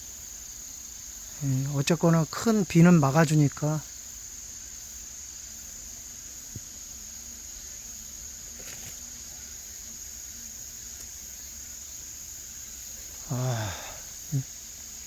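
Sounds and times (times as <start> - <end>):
insects chirring: 0.0 - 15.0
outdoor hiss: 0.0 - 15.0.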